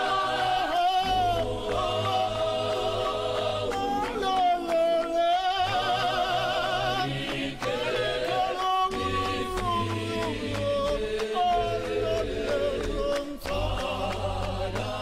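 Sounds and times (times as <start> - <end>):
man singing lead with vibrato: 0.0 - 3.0, 3.6 - 15.0
choir singing gospel: 0.0 - 15.0
hands clapping: 0.0 - 15.0.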